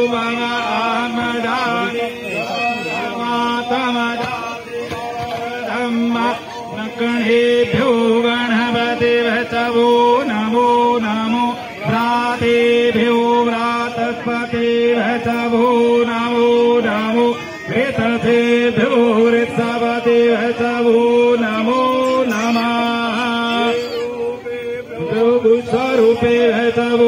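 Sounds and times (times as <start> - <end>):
devotional chant sung over music: 0.0 - 27.0.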